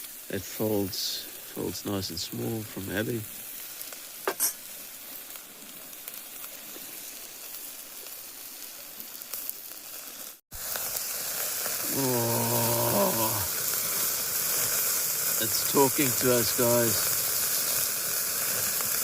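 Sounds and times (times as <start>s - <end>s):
meat fat sizzling on a grill: 0.0s - 19.0s.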